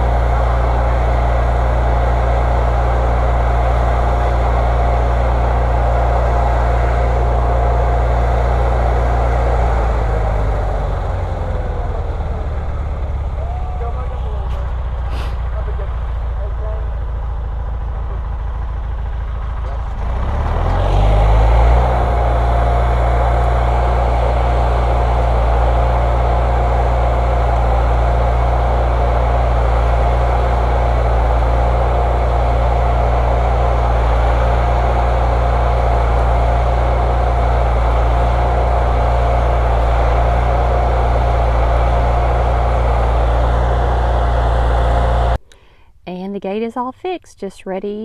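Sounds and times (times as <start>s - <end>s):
high whine: 0.0s - 45.6s
engine deep hum: 0.0s - 47.2s.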